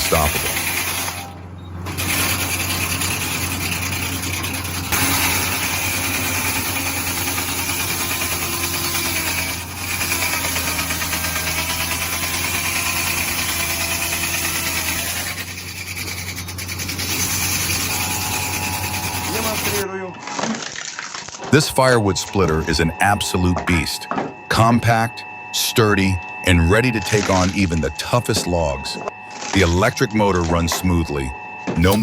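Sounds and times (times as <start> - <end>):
sawmill engine running: 0.0 - 20.2, 21.6 - 32.0.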